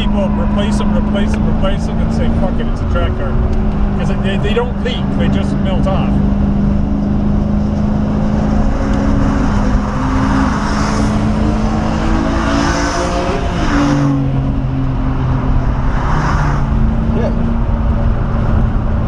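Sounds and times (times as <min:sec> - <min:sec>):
car engine running hard: 0:00.0 - 0:19.0.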